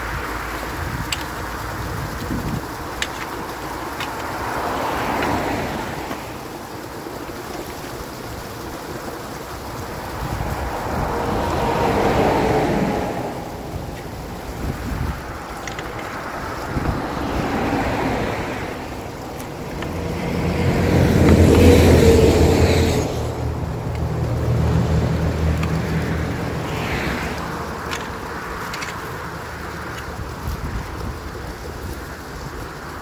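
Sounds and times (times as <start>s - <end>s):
motor vehicle passing: 0.0s - 31.0s
water splashing: 0.0s - 33.0s.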